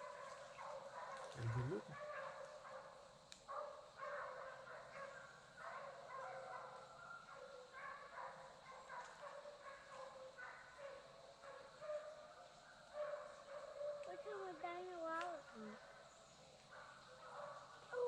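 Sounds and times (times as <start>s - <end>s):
faint hounds baying: 0.0s - 14.8s, 15.4s - 18.0s.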